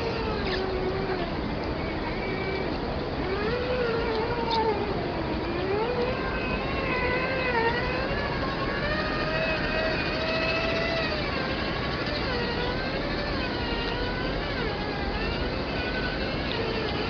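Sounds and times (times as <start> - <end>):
electric motor and gearbox whining: 0.0 - 17.0
steady noise bed: 0.0 - 17.0.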